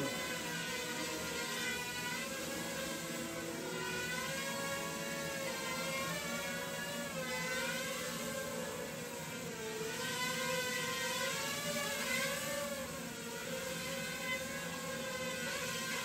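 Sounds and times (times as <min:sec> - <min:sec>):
quadcopter propellers whirring: 0:00.0 - 0:16.0.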